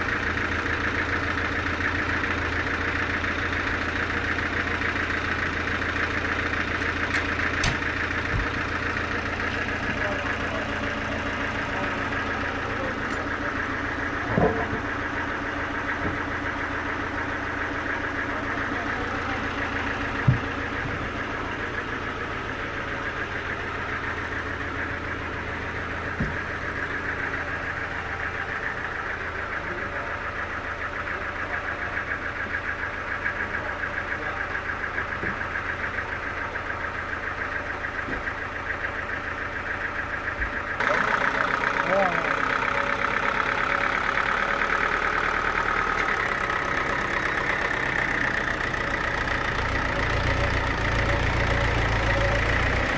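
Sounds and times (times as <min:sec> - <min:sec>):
sawmill machinery droning: 0:00.0 - 0:52.9.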